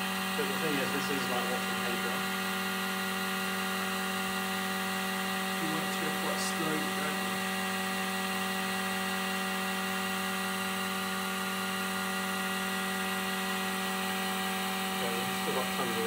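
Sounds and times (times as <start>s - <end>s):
vacuum pump humming: 0.0s - 16.0s.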